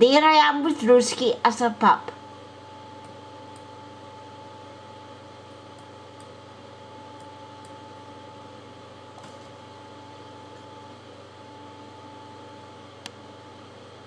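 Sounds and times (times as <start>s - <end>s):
computer fan hum and hiss: 0.0s - 14.0s.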